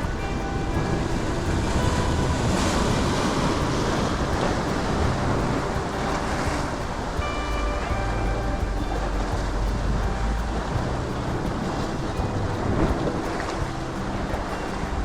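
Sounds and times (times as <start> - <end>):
waves on rocky shore: 0.0 - 15.0
wind buffeting microphone: 0.0 - 15.0.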